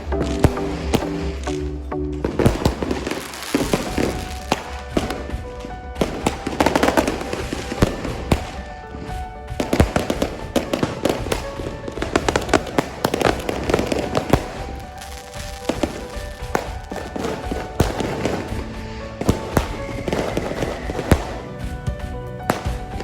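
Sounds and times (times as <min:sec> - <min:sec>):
fireworks cracks and bangs: 0:00.0 - 0:23.0
music playing: 0:00.0 - 0:23.0.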